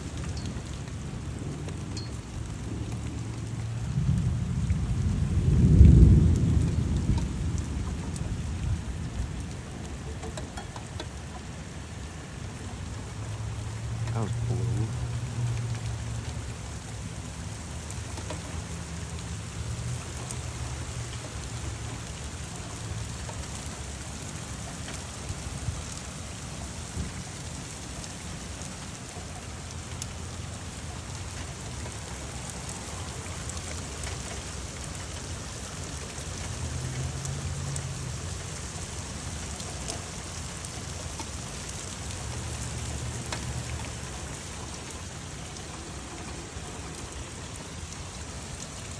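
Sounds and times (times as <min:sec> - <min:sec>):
heavy rain pouring: 0:00.0 - 0:48.9
raindrops ticking close by: 0:00.0 - 0:48.9.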